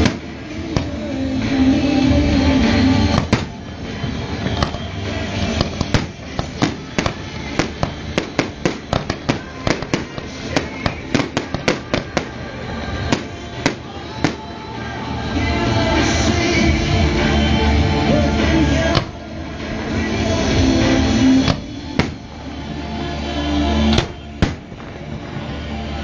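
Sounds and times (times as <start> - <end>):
fireworks banging: 0.0 - 17.3, 18.0 - 26.0
music playing: 0.0 - 26.0.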